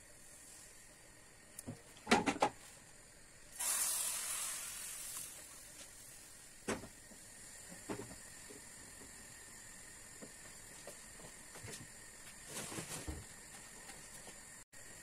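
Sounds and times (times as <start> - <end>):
batter sizzling in hot pan: 0.0 - 12.5.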